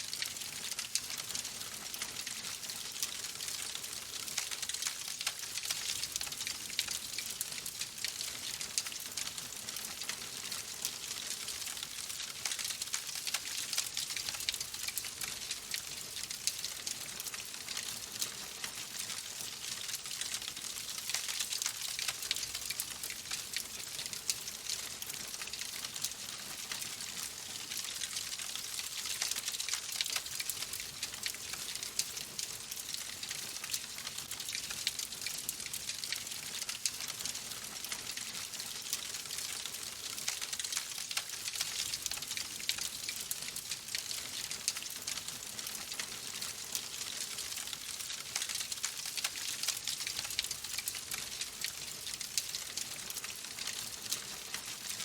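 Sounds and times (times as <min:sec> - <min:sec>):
fireplace fire crackling: 0:00.1 - 0:54.9.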